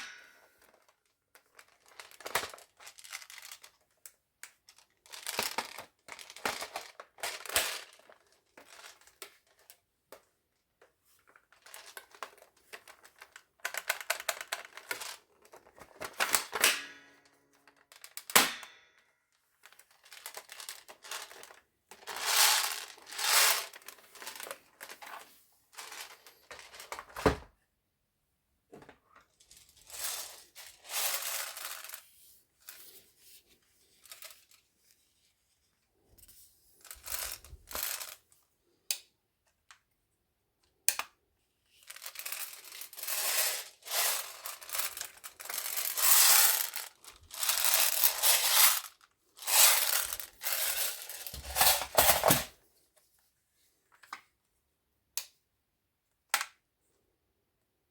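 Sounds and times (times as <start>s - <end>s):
rustling and handling noises: 0.0s - 16.6s, 19.2s - 27.6s, 28.7s - 38.5s, 41.6s - 54.5s.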